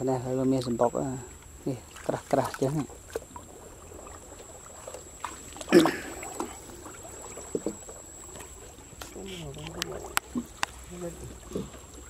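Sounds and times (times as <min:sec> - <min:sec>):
water sloshing as someone wades: 0:00.0 - 0:12.0
water splashing: 0:00.0 - 0:12.0.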